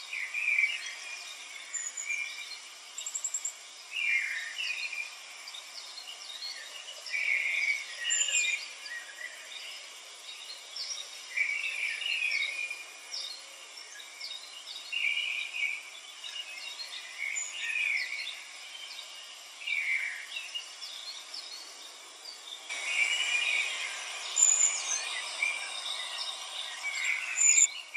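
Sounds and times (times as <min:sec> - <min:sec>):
birds chirping and twittering: 0:00.0 - 0:27.9
steady hiss: 0:00.0 - 0:27.9.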